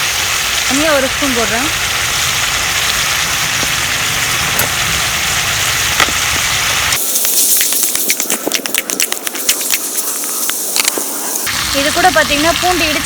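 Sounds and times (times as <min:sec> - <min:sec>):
chicken sizzling in oil: 0:00.0 - 0:13.0
sharp crackling and popping: 0:00.0 - 0:13.0.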